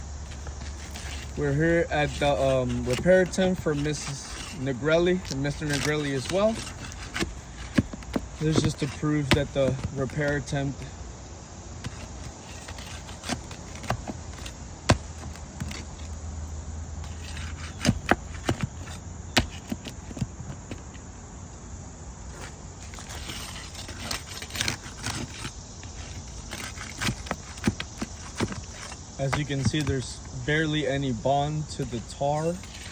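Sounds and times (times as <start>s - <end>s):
scraping and rustling: 0.0s - 11.0s, 11.6s - 16.2s, 17.0s - 21.1s, 22.2s - 32.9s
shingles snapping and clicking: 0.2s - 10.9s, 11.8s - 16.1s, 17.0s - 21.0s, 22.3s - 30.3s.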